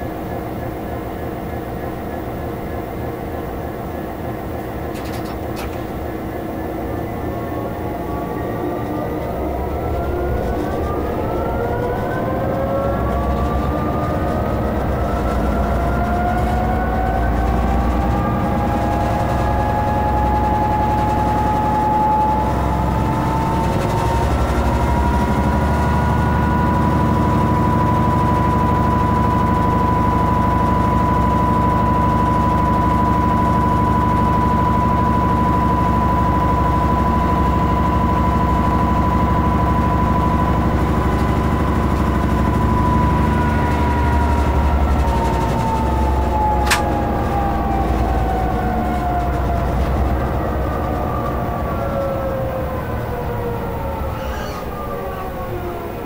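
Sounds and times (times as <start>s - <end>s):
diesel locomotive engine whine: 0.0s - 56.0s.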